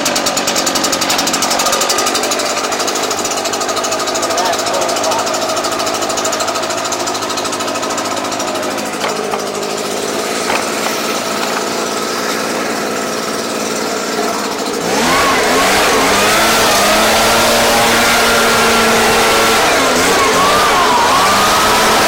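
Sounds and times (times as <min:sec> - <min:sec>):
blower engine idling and revving: 0:00.0 - 0:22.0.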